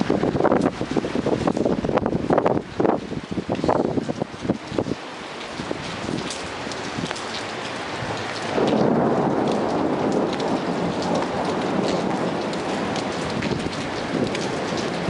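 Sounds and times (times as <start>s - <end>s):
thunder rumbling: 0.0s - 5.0s, 5.6s - 15.0s
heavy rain falling: 0.0s - 15.0s
raindrops ticking close by: 0.0s - 15.0s.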